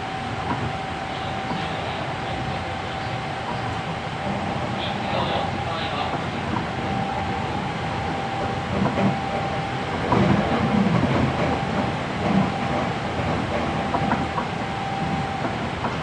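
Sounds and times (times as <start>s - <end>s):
train rolling noise: 0.0s - 16.0s.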